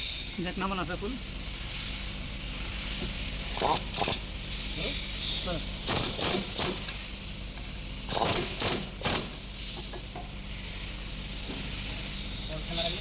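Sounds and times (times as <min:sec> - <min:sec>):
steady hum: 0:00.0 - 0:13.0
engine repair strokes: 0:00.3 - 0:13.0.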